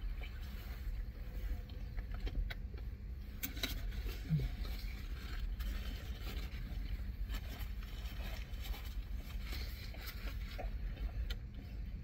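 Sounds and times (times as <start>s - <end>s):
low rumble inside car: 0.0s - 12.0s
people chewing food: 0.0s - 12.0s.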